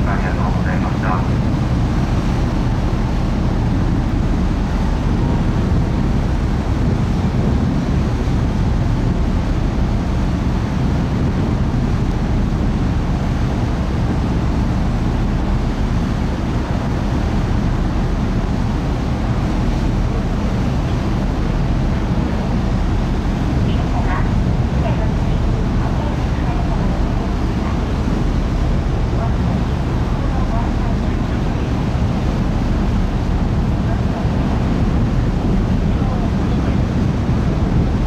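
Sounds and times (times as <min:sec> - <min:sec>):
ship running noise: 0:00.0 - 0:38.0
wind rushing over microphone: 0:00.0 - 0:38.0.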